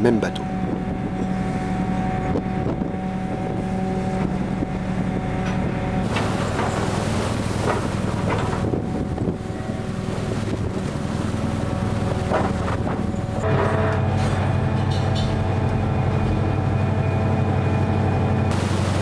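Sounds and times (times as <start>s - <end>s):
waves crashing against hull: 0.0s - 15.8s, 18.4s - 19.0s
wind buffeting microphone: 0.0s - 17.6s
boat engine droning: 0.0s - 19.0s.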